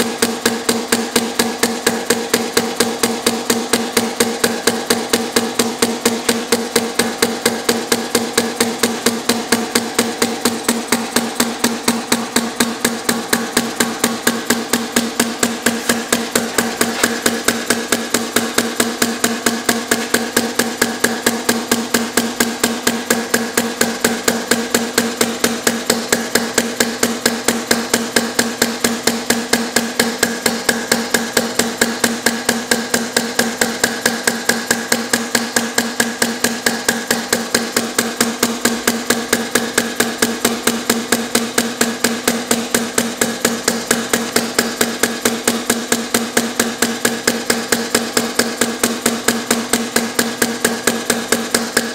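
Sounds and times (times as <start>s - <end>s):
model engine clicking: 0.0s - 51.9s.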